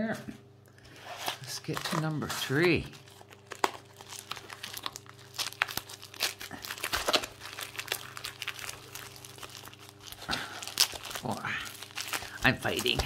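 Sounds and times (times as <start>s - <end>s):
steady low hum: 0.0s - 13.0s
plastic crinkling: 0.8s - 13.0s.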